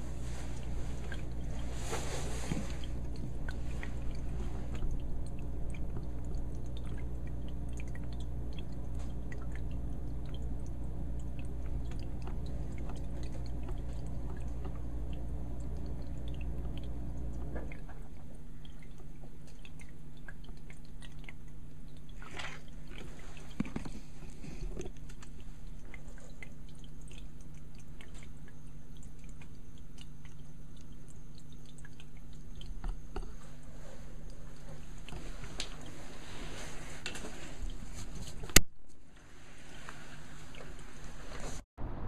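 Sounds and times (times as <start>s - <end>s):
water trickling: 0.0s - 41.6s
aquarium equipment hum: 0.0s - 42.0s.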